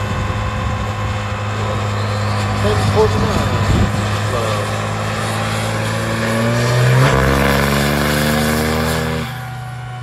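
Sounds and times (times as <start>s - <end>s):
diesel engine revving at full throttle: 0.0s - 10.0s.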